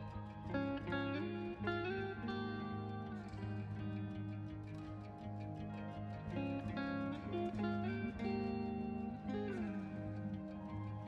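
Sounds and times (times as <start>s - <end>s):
background music melody: 0.0s - 11.0s
steady low tone: 0.0s - 11.0s.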